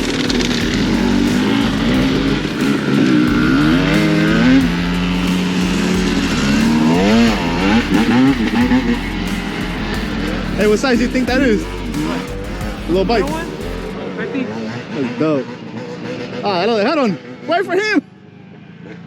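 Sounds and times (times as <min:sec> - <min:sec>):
pit bike engines revving: 0:00.0 - 0:19.0.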